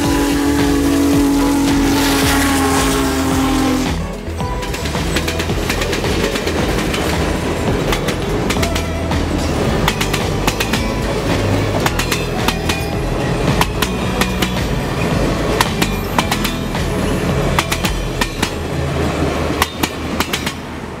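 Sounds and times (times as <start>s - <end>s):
train cars rumbling past: 0.0s - 21.0s
wheels clicking on track: 0.0s - 21.0s.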